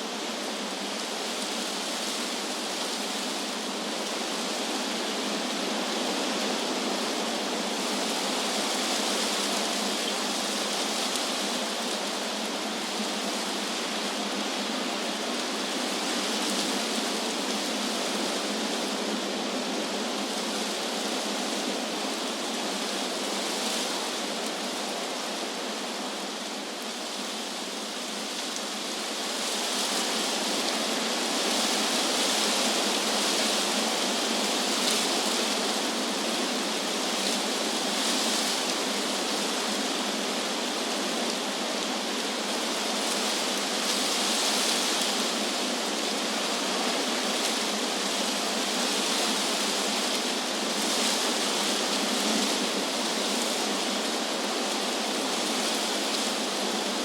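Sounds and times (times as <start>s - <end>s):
wind through trees: 0.0s - 57.0s.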